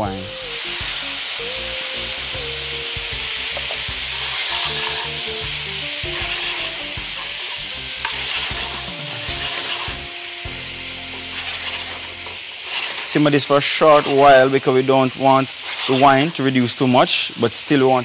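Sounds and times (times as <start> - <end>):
liquid hissing as it boils off: 0.0 - 18.0
vegetables sizzling in a pan: 0.0 - 18.0.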